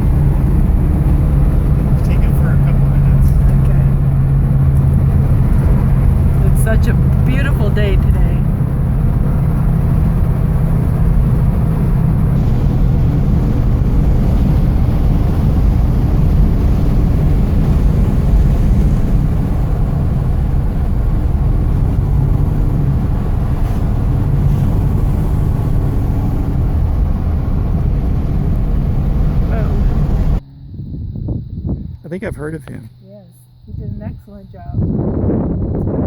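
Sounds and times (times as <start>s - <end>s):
car engine exhaust drone: 0.0s - 36.0s.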